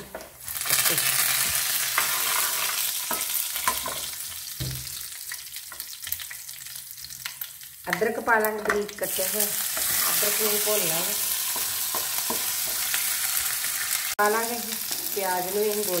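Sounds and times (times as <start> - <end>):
leaves sizzling in hot oil: 0.4 - 8.0, 8.9 - 16.0.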